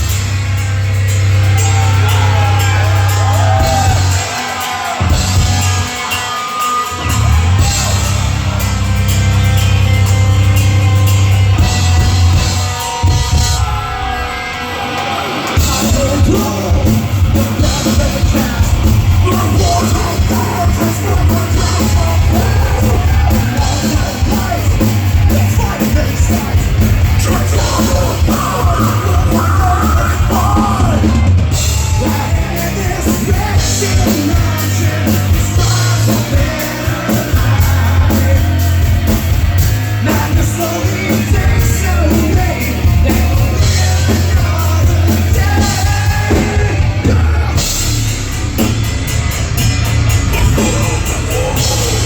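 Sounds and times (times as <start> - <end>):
distorted guitars: 0.0 - 52.0
driving drum kit: 0.0 - 52.0
heavy metal band playing live: 0.0 - 52.0.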